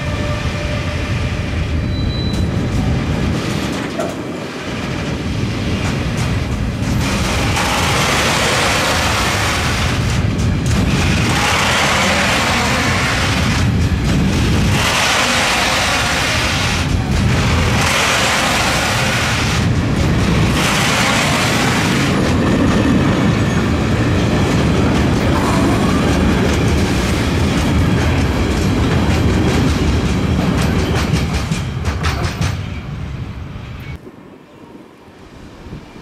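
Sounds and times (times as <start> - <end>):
train wheels rumbling on rails: 0.0 - 36.0
wheels clacking over rail joints: 2.3 - 32.8.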